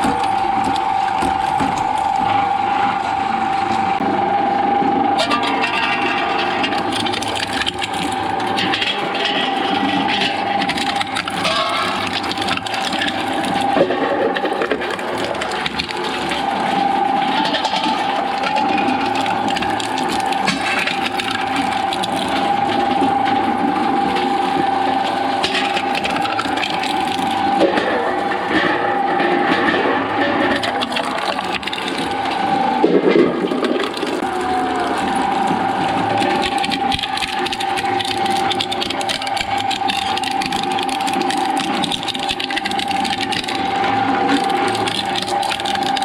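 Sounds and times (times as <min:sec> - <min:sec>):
shredder blades grinding: 0:00.0 - 0:46.0
shredder motor whine: 0:00.0 - 0:46.0.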